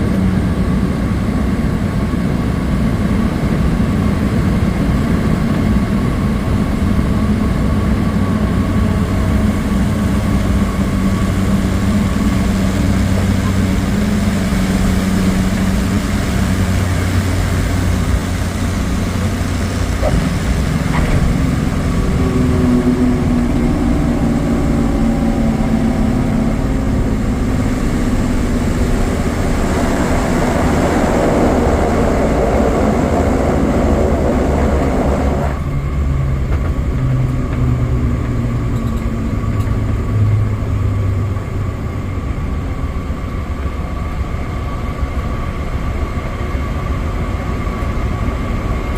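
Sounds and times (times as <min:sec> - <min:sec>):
turboprop engine inside cabin: 0:00.0 - 0:48.9.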